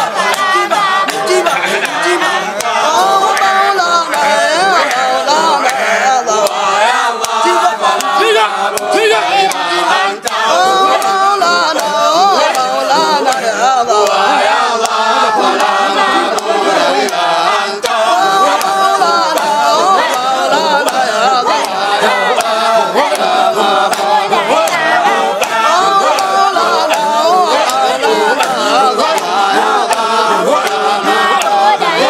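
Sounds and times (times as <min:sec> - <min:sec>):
men chanting together: 0:00.0 - 0:32.0.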